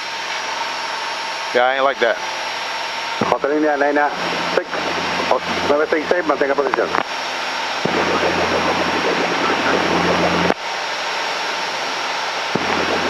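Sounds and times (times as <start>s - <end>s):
propeller plane cabin drone: 0.0s - 13.0s.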